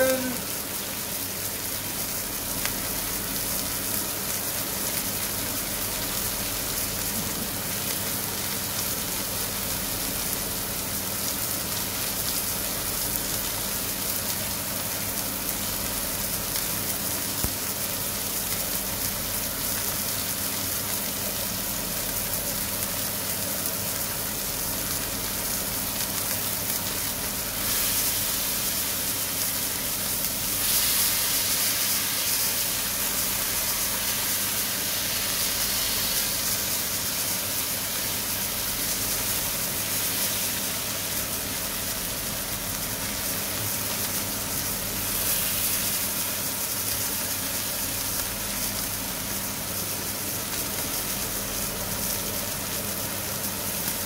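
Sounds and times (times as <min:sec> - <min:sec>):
meat patties sizzling in a pan: 0:00.0 - 0:54.0.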